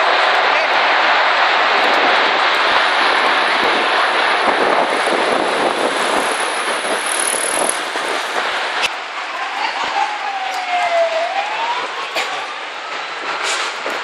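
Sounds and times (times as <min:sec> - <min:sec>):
tornado wind rushing: 0:00.0 - 0:14.0.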